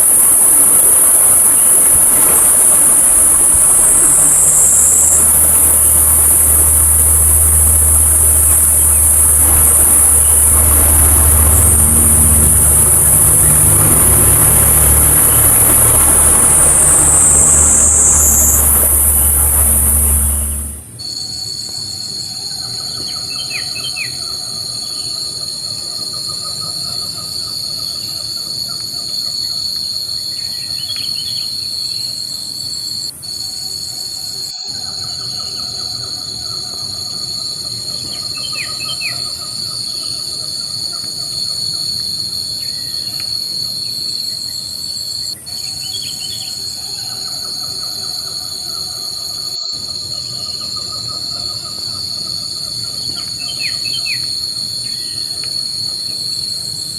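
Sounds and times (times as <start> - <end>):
insects droning: 0.0 - 56.9.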